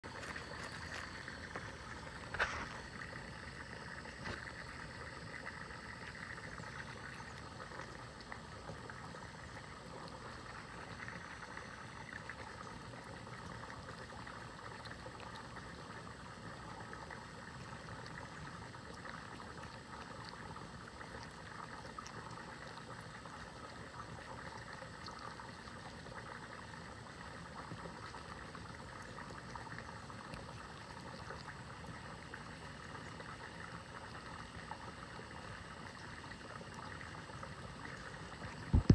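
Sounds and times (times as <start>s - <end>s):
bubbling running water: 0.0s - 38.9s.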